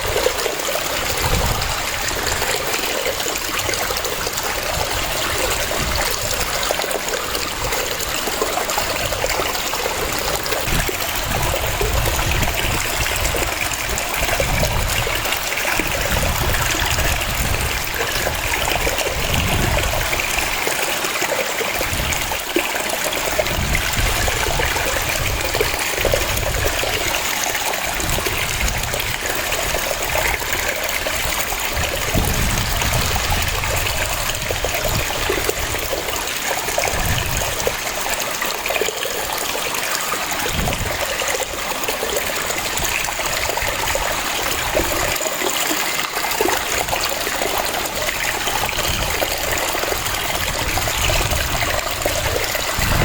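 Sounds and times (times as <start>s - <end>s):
waterfall rushing and splashing: 0.0s - 53.0s.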